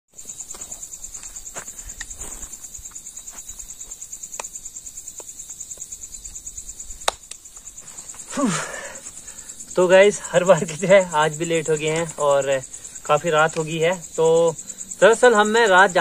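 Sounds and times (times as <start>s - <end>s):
crickets trilling: 0.1s - 16.0s.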